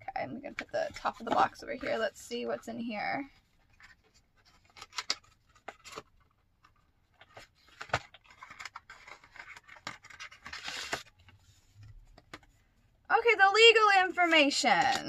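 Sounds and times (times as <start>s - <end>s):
cardboard and paper handling: 0.3s - 12.8s, 13.8s - 15.0s.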